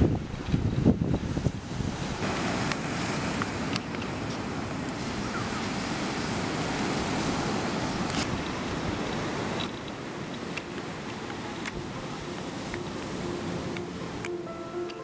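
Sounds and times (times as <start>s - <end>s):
sea surf breaking on shore: 0.0s - 15.0s
wind: 0.0s - 15.0s.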